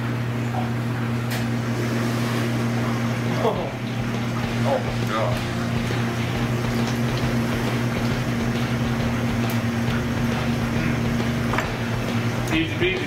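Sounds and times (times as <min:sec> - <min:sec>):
kitchen machinery humming: 0:00.0 - 0:13.0.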